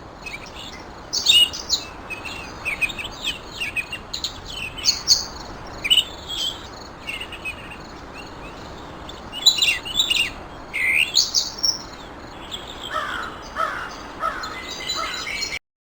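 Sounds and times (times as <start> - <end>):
background hiss: 0.0 - 15.6
songbirds chirping: 0.0 - 15.6.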